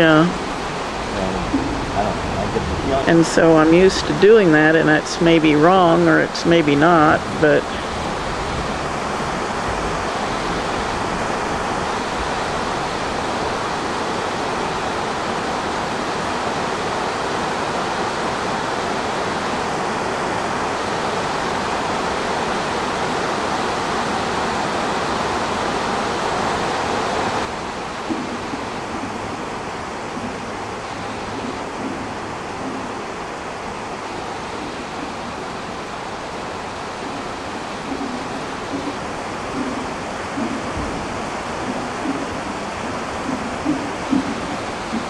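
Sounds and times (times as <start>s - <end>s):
steady rushing hiss: 0.0s - 45.0s.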